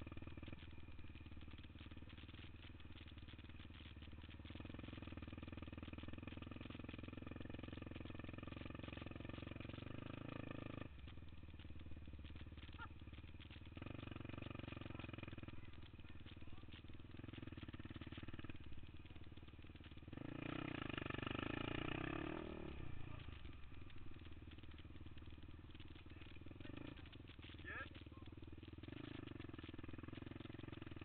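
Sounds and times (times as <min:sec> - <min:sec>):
quad engine running: 0:00.0 - 0:31.0.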